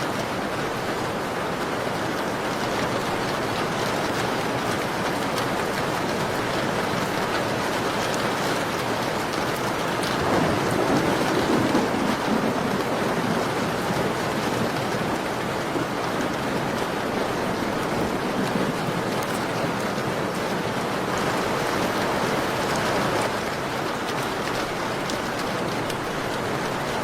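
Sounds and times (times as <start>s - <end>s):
rain on a window: 0.0s - 27.0s.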